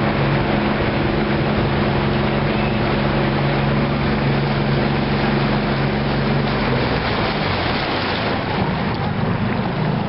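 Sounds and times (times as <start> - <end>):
boat motor humming: 0.0 - 10.0
water rushing: 0.0 - 10.0.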